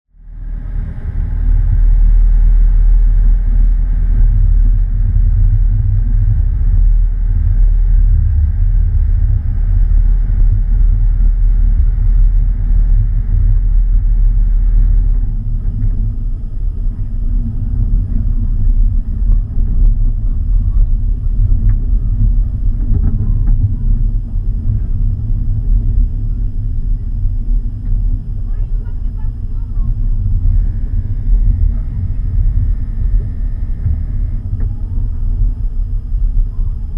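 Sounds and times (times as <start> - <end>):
car driving rumble: 0.1 - 36.9.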